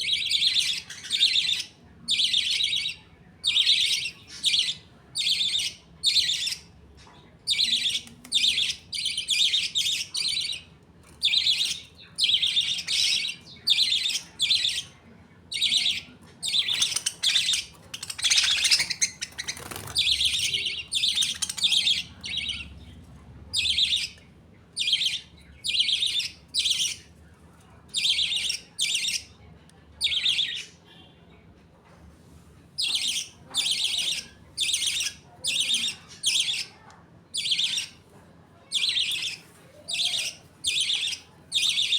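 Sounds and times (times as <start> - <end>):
budgerigars chirping and chattering: 0.0 - 31.0, 32.8 - 38.0, 38.6 - 41.9.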